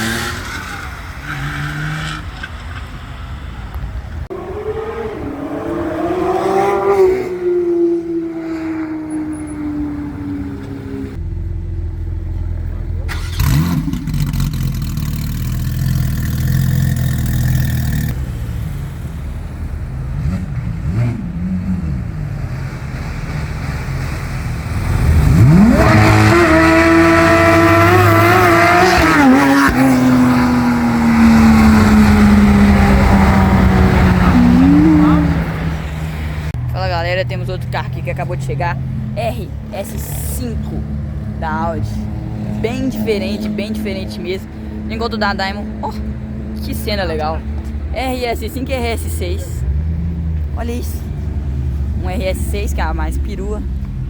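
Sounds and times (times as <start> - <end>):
sports car engine revving: 4.3 - 53.0.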